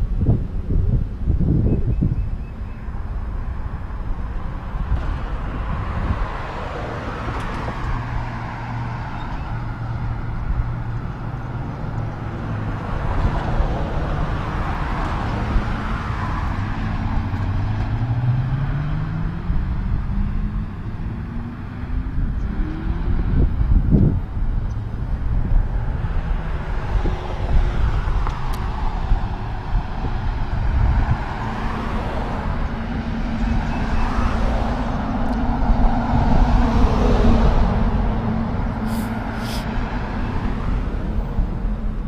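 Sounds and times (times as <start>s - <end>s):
cars passing: 0.0s - 42.0s
wind buffeting microphone: 0.0s - 42.0s.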